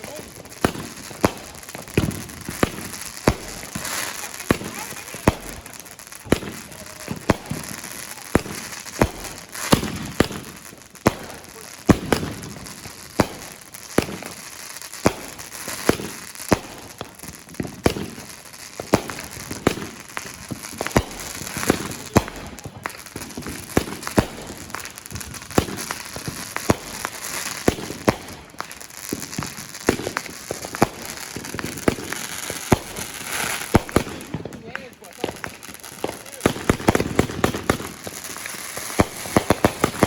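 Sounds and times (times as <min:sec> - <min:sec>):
fireworks bangs: 0:00.0 - 0:40.0
fireworks crackling: 0:00.0 - 0:40.0.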